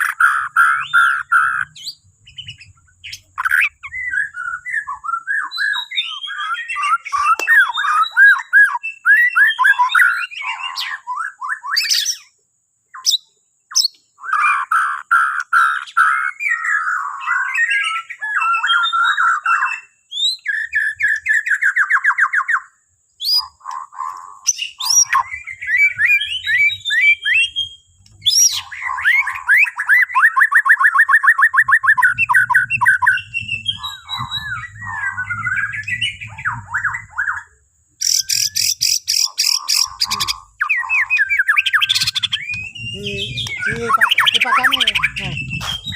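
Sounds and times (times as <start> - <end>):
bird singing whistles and trills: 0.0 - 45.9.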